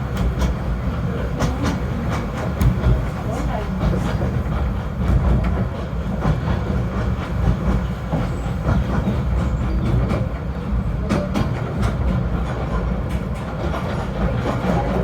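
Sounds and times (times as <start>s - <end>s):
rack train rumbling: 0.0s - 15.0s.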